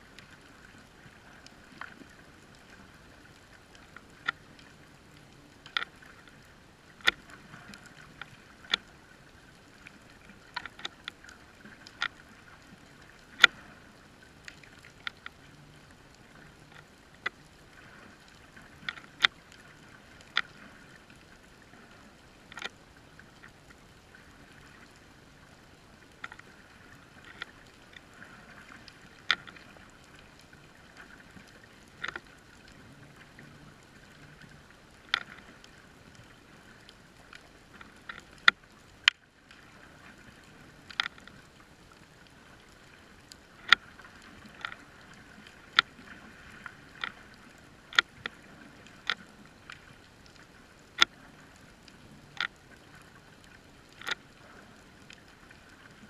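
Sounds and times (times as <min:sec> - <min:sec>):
sharp underwater clicks: 0:00.1 - 0:25.0, 0:26.0 - 0:56.0.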